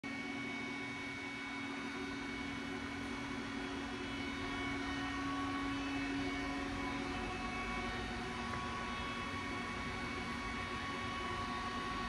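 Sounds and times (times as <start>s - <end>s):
machine hum with hiss: 0.1s - 12.0s.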